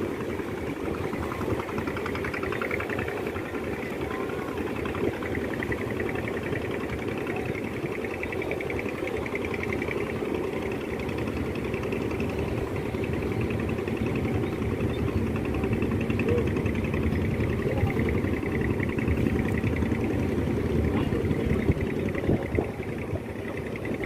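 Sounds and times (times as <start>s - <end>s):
ship engines rumbling: 0.0s - 24.0s.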